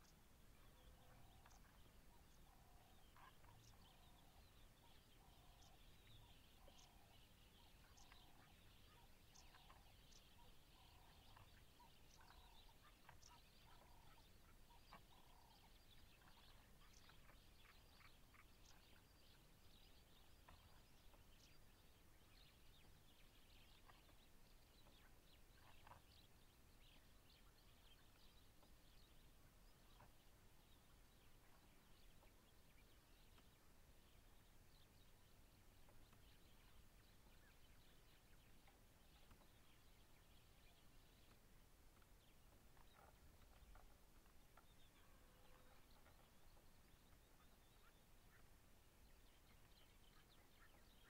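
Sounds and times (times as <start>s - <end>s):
evening bush ambience: 0.0s - 51.0s.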